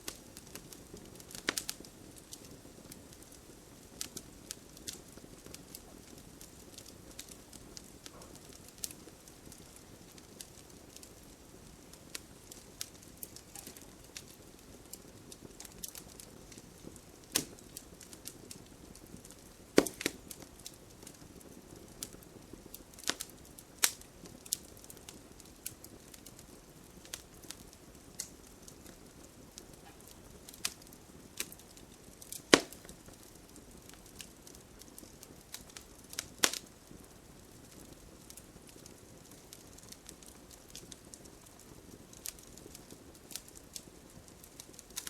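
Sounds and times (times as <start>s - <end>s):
campfire crackling: 0.0s - 45.0s
hiss of burning wood: 0.0s - 45.0s.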